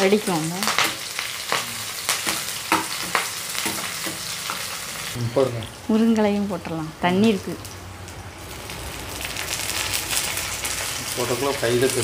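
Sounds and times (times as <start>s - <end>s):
onion sizzling in hot oil: 0.0s - 12.0s.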